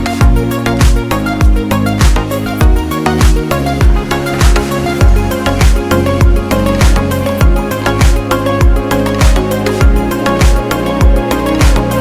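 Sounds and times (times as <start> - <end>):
deep kick drum beat: 0.0 - 12.0
sustained synth chords: 0.0 - 12.0.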